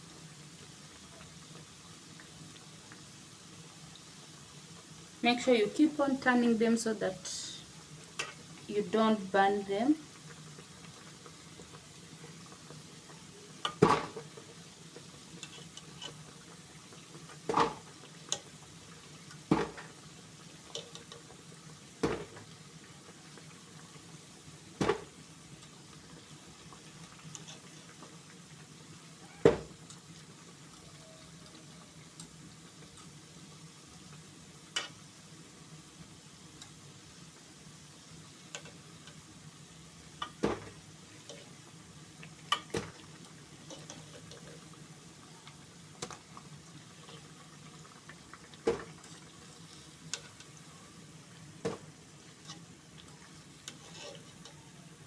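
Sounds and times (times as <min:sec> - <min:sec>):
dough deep-frying in oil: 0:00.0 - 0:55.0.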